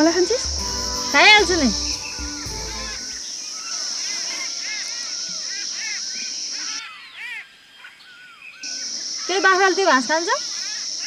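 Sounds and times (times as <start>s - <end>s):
high insect drone: 0.0s - 7.0s, 8.1s - 11.0s
bird chirps: 1.0s - 11.0s.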